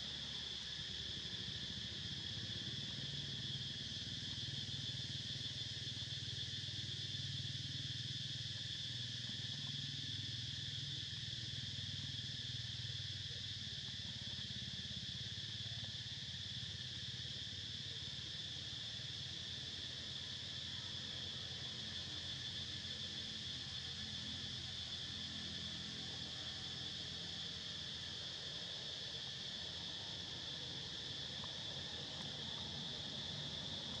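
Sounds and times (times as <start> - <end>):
high-pitched insect chorus: 0.0 - 34.0.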